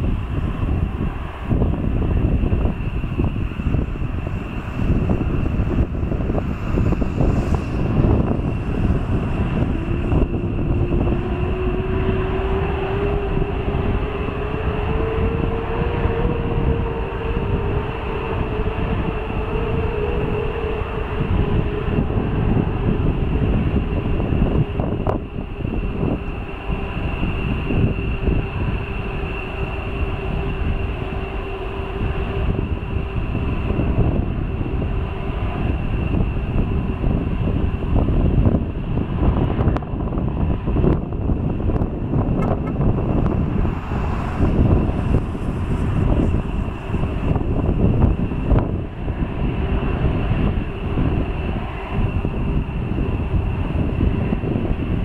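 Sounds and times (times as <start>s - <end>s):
jet engines rumbling with high whine: 0.0s - 55.0s
low engine hum: 0.0s - 55.0s.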